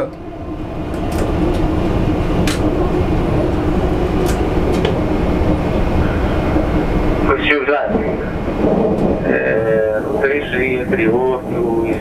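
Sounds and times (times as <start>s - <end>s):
constant hum: 0.0s - 12.0s
metro train rumble: 0.0s - 12.0s.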